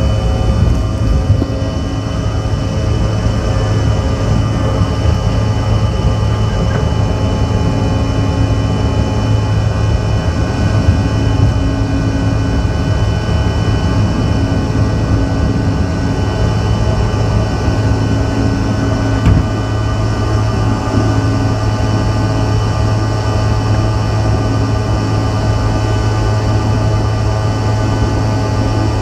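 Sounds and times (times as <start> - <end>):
jet cabin engine drone: 0.0 - 29.0.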